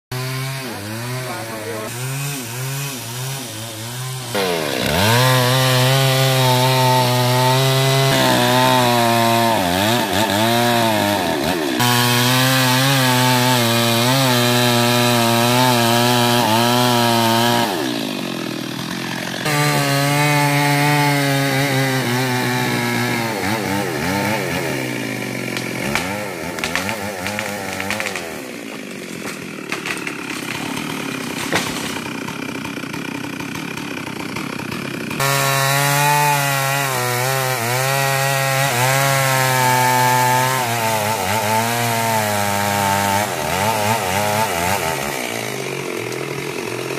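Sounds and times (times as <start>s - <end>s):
chainsaw cutting wood: 0.1s - 46.9s.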